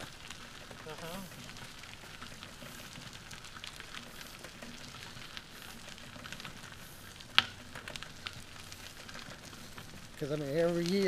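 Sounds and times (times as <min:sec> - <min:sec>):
tires rolling over gravel: 0:00.0 - 0:11.0.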